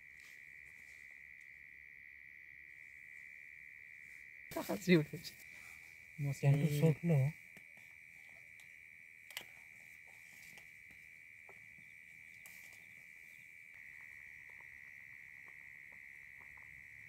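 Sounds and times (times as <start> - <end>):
night insects trilling: 0.0 - 17.0.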